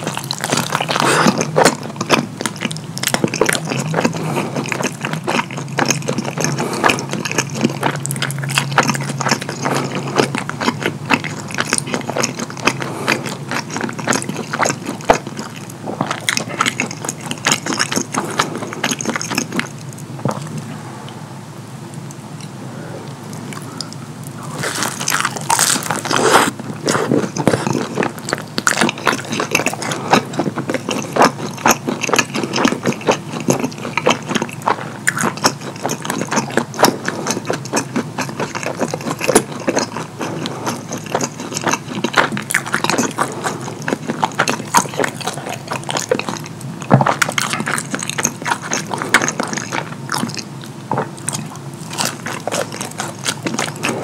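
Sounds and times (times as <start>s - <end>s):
wet chewing and lip smacking: 0.0s - 20.7s, 23.3s - 54.0s.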